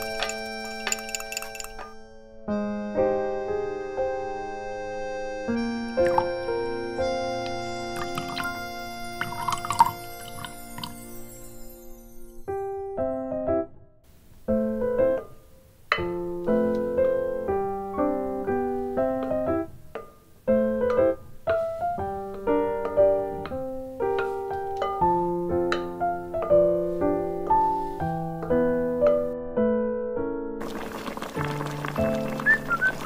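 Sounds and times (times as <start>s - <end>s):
piano tune: 0.0s - 13.9s, 14.5s - 33.0s.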